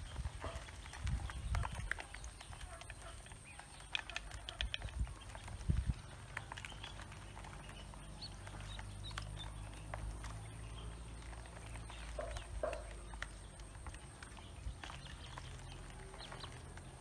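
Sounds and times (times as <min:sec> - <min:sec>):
ducklings peeping: 0:00.0 - 0:17.0
low bird calls: 0:00.0 - 0:17.0
bills tapping on plastic basin: 0:00.2 - 0:17.0.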